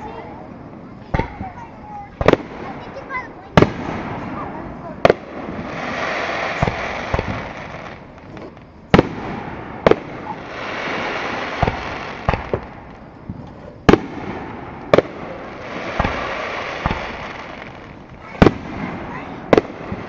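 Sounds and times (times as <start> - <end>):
fireworks booming bangs: 0.0 - 20.0.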